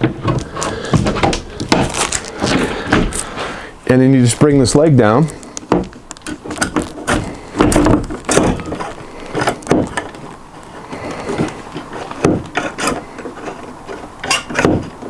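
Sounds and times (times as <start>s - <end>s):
knocks and rubbing of handling: 0.0s - 15.0s.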